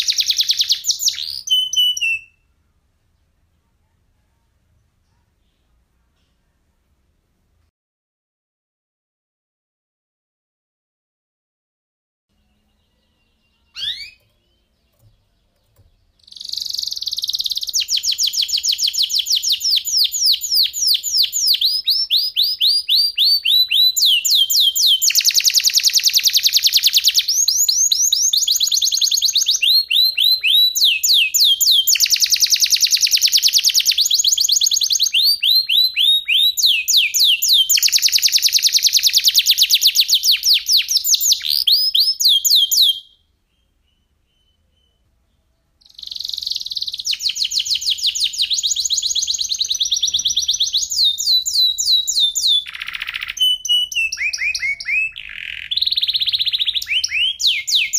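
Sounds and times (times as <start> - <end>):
canary singing: 0.0 - 2.5, 12.3 - 57.9.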